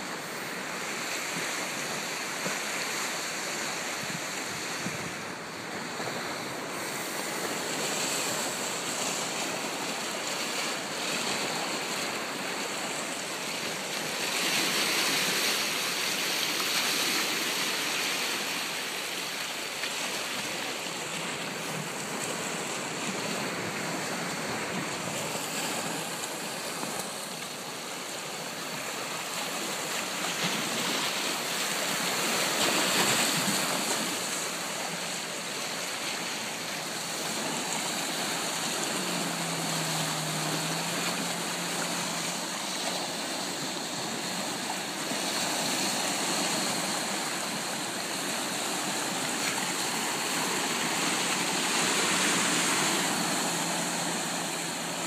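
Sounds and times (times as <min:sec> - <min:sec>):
waves washing against shore: 0:00.0 - 0:55.0.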